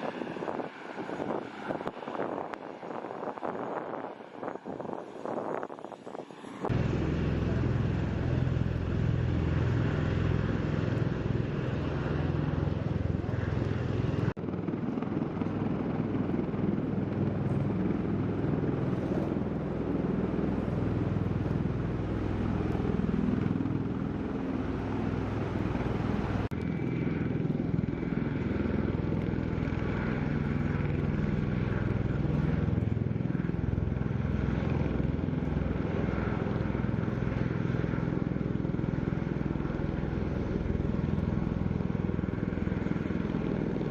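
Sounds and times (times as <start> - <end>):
aircraft engines throbbing rumble: 0.0 - 43.9.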